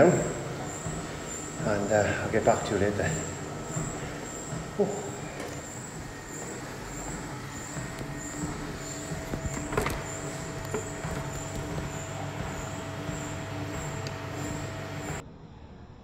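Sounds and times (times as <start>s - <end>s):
footsteps on treadmill belt: 0.0s - 15.2s
treadmill motor and belt hum: 0.0s - 15.2s.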